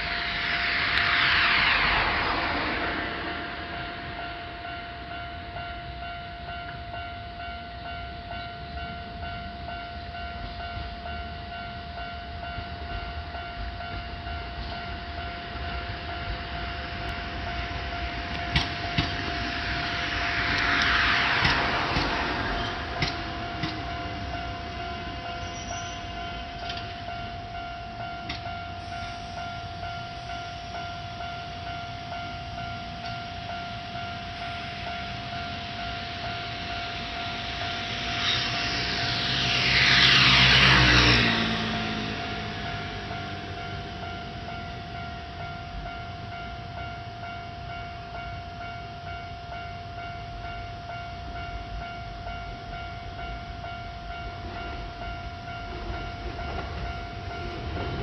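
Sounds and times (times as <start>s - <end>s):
crossing alarm warning tone: 0.0s - 58.0s
electric train passing: 0.0s - 58.0s.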